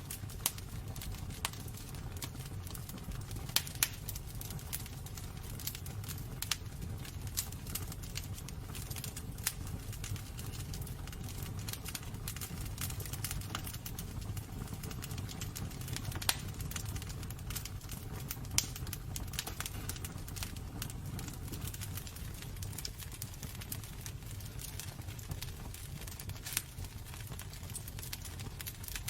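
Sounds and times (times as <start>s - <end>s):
low rumble of fire: 0.0s - 29.0s
wood fire crackling and popping: 0.0s - 29.0s.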